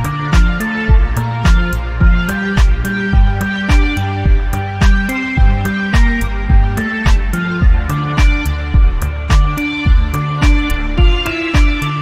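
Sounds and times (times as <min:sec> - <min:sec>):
bass line: 0:00.0 - 0:12.0
held synth notes: 0:00.0 - 0:12.0
hi-hat ticks: 0:00.0 - 0:12.0
kick drum: 0:00.0 - 0:12.0.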